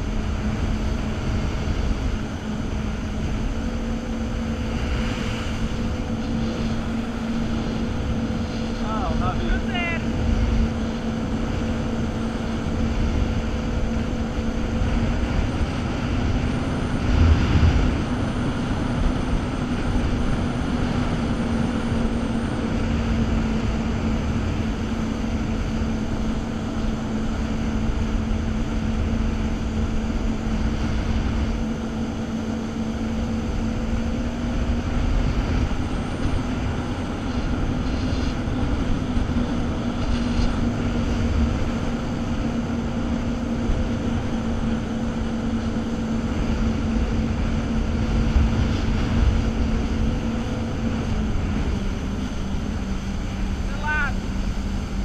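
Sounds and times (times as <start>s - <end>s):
jet ski engine drone: 0.0s - 55.0s
wind noise: 0.0s - 55.0s.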